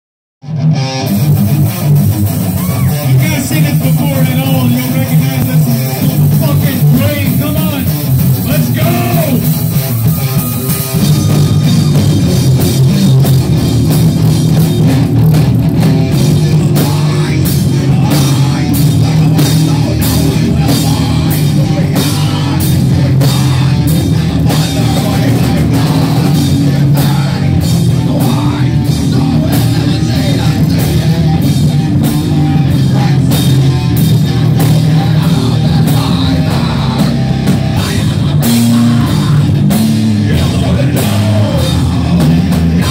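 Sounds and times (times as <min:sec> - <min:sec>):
heavy metal band playing live: 0:00.4 - 0:42.9.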